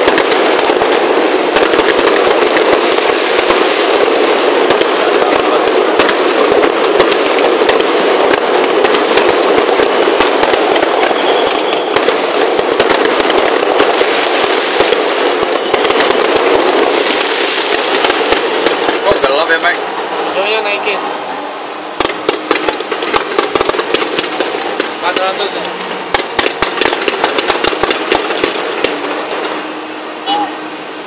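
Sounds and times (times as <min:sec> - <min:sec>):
falling firework whistles: 0:00.0 - 0:19.6, 0:21.7 - 0:30.8
fireworks crackling and banging: 0:00.0 - 0:31.0.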